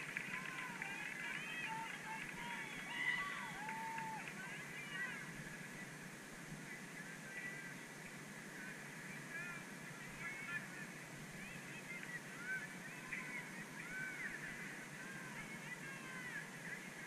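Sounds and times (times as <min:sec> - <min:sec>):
flock of birds calling: 0:00.0 - 0:06.0, 0:08.5 - 0:17.0.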